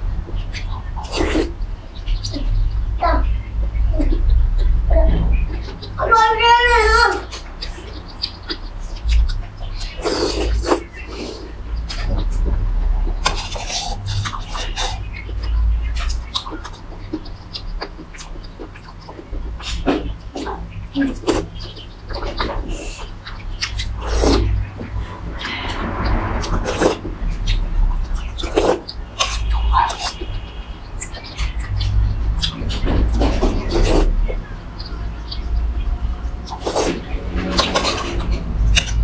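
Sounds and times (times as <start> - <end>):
wet chewing and lip-smacking: 7.2 - 39.0.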